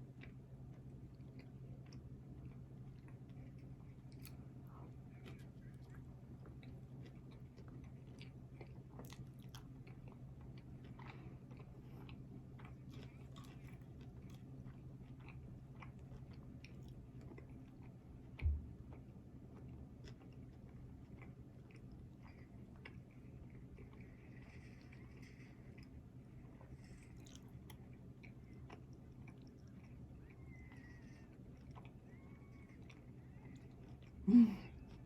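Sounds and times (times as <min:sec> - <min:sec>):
person chewing food: 0:00.0 - 0:35.0
steady low hum: 0:00.0 - 0:35.0.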